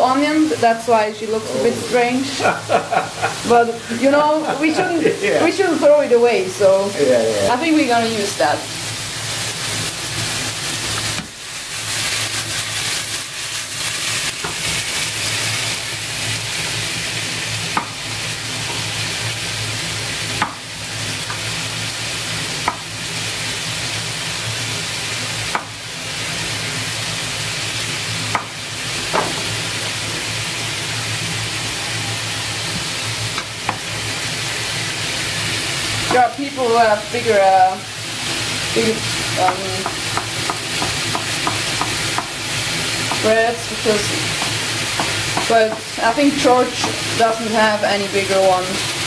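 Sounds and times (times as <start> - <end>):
chicken sizzling in butter: 0.0 - 49.0.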